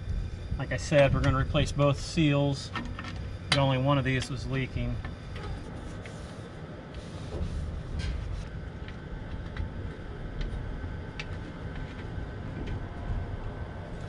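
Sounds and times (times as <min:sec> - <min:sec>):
faint hum: 0:00.0 - 0:14.0
low rumble: 0:00.0 - 0:14.0.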